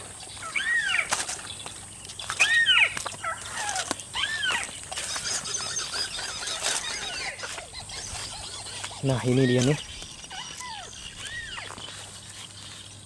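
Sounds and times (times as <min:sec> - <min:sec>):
bird calling: 0:00.0 - 0:13.0
high twittering: 0:00.0 - 0:13.0.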